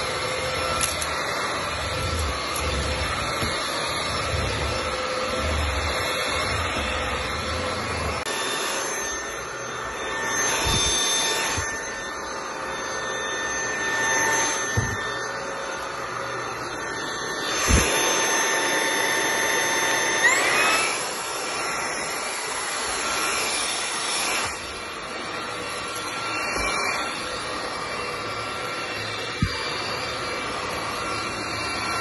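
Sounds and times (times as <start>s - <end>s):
vacuum motor whine: 0.0s - 32.0s.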